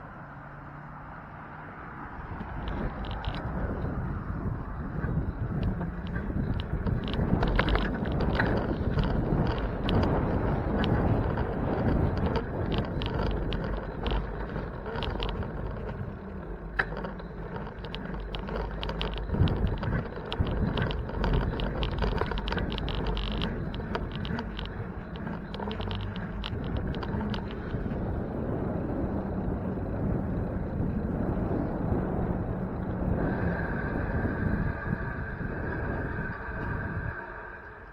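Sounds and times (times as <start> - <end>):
low road rumble: 0.0 - 37.9
wind rushing over microphone: 1.6 - 37.9
bicycle rattling clicks: 2.0 - 33.6.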